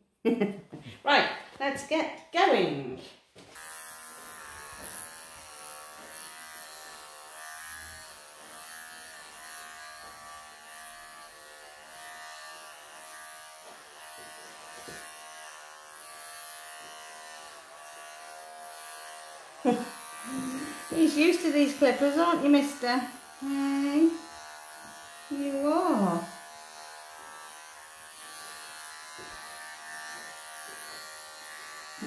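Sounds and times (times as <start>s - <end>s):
electric clippers buzzing: 3.4s - 32.0s.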